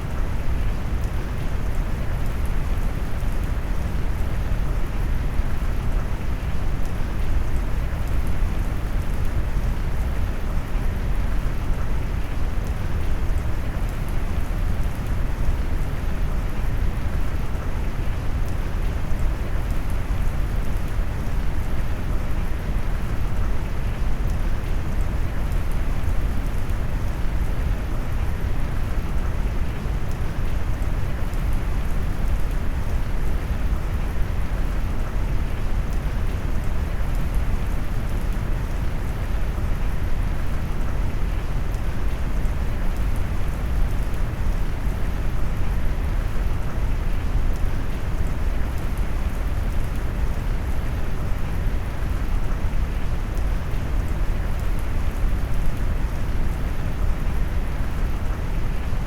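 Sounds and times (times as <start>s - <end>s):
deep rushing rain noise: 0.0s - 59.0s.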